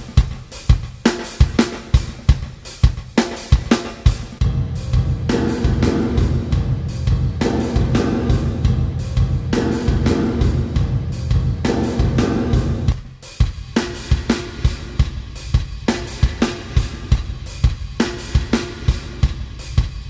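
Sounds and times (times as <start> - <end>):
drum kit with reverb: 0.0 - 20.0.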